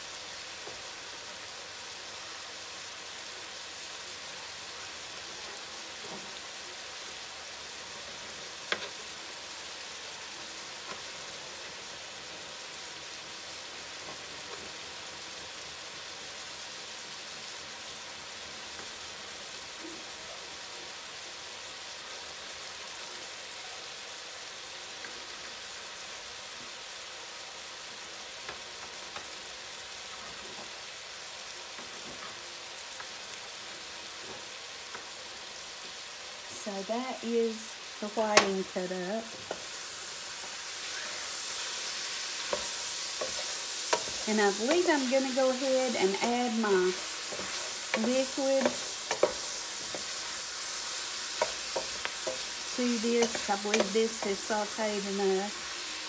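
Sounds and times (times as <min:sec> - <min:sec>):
stew base sizzling in pot: 0:00.0 - 0:56.0.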